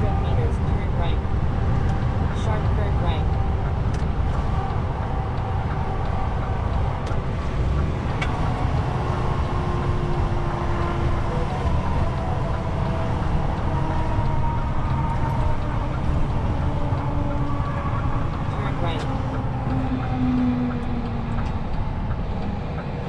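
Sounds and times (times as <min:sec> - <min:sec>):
truck engine and tyres rumbling: 0:00.0 - 0:23.0.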